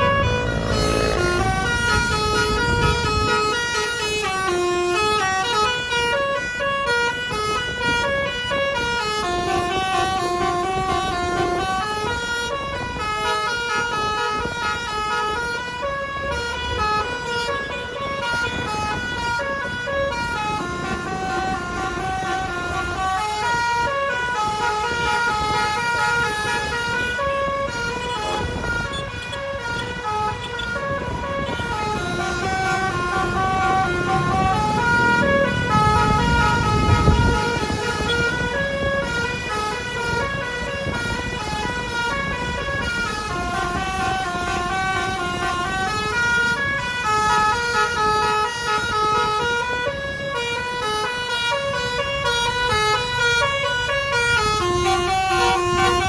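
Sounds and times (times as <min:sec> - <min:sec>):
bus musical air horn melody: 0:00.0 - 0:56.0
engine and road rumble: 0:00.0 - 0:56.0.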